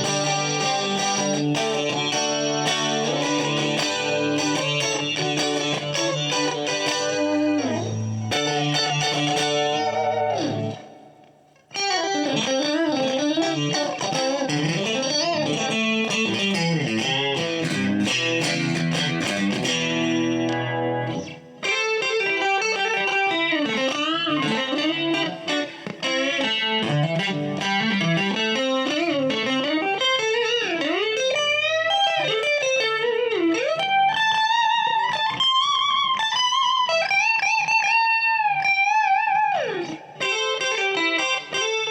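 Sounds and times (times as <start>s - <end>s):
clean electric guitar: 0.0s - 41.9s.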